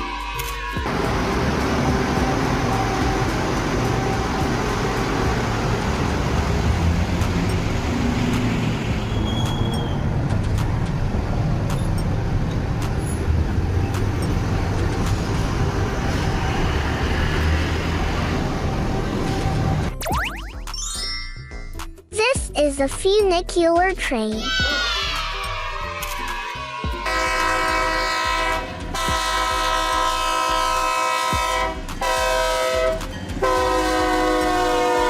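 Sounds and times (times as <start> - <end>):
monorail train rumbling: 0.0 - 19.9, 25.9 - 35.0.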